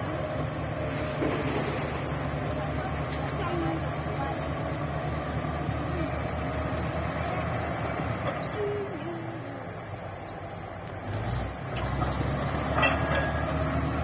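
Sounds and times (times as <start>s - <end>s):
bulldozer diesel engine: 0.0s - 14.0s.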